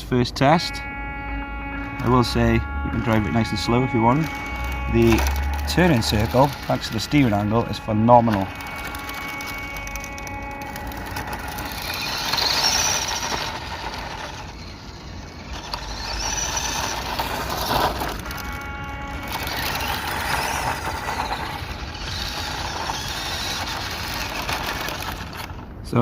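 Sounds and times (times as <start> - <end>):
electric motor whining: 0.6 - 25.7.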